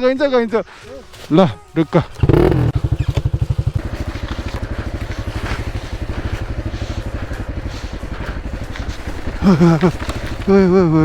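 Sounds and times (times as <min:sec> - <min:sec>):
dirt bike engine puttering: 0:00.8 - 0:11.0.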